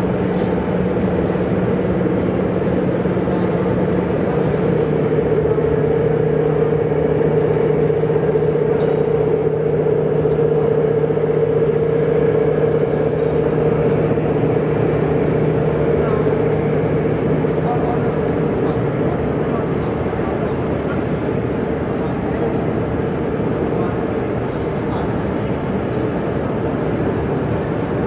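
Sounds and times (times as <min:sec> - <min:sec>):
busy hall noise: 0:00.0 - 0:28.0
faint voices: 0:00.0 - 0:28.0
steady hum: 0:00.0 - 0:28.0.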